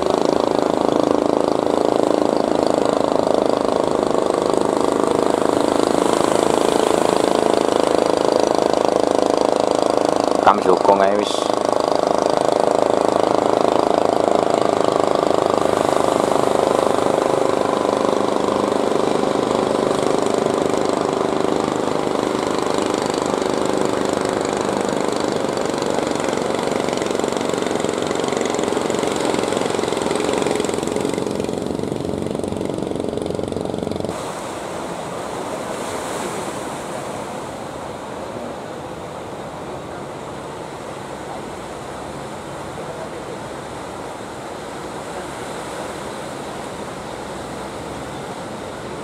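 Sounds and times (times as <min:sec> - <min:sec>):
boat engine running: 0:00.0 - 0:49.0
surf: 0:00.0 - 0:49.0
wind: 0:00.0 - 0:49.0.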